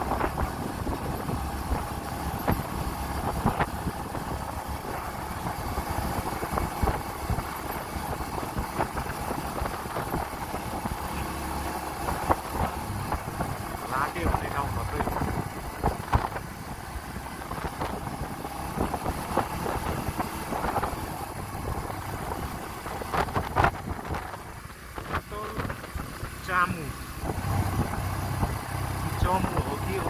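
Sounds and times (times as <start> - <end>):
motorcycle engine and road noise: 0.0 - 30.0.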